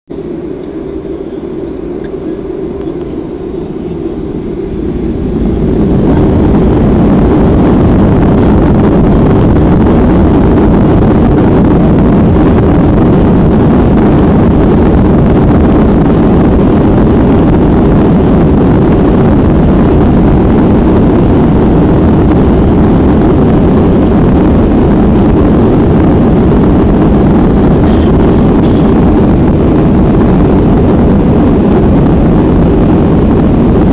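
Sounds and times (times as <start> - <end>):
jet engines roaring: 0.1 - 33.9.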